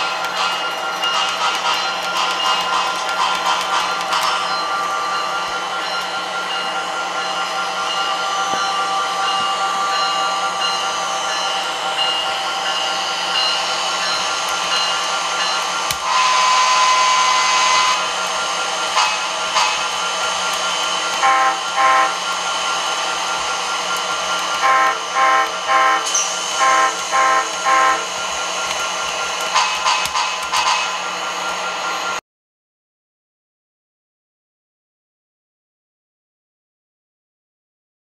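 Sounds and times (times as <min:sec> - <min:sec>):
model locomotive whirring: 0:00.0 - 0:32.2.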